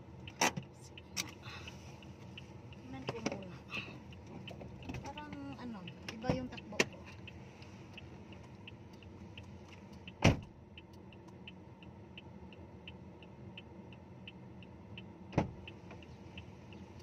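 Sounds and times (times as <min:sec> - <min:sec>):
car indicator ticking: 0:00.0 - 0:17.0.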